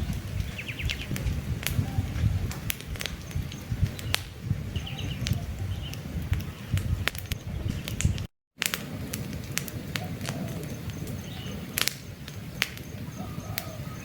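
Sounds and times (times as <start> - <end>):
birds chirping: 0.0 - 8.3, 10.0 - 14.0
campfire crackling: 0.0 - 14.0.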